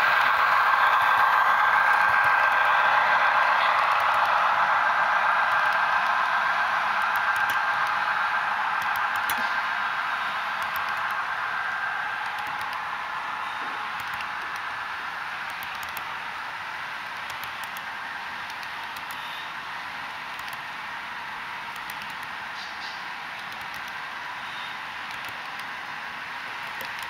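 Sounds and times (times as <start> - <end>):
model train wheels whirring: 0.0 - 27.0.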